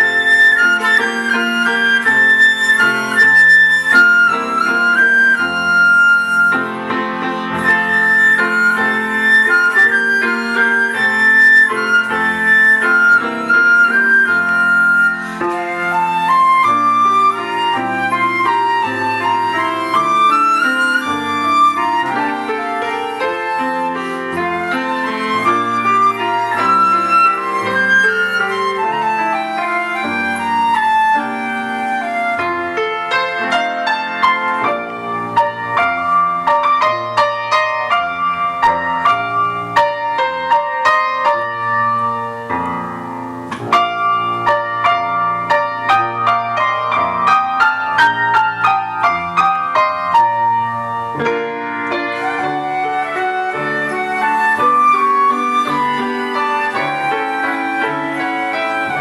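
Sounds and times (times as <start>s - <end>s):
flute melody: 0.0s - 59.0s
piano accompaniment: 0.0s - 59.0s.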